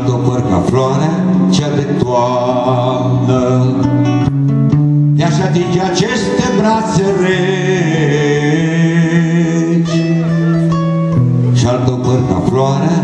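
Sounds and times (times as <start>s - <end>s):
man singing: 0.0s - 4.3s, 5.2s - 13.0s
acoustic guitars: 0.0s - 13.0s.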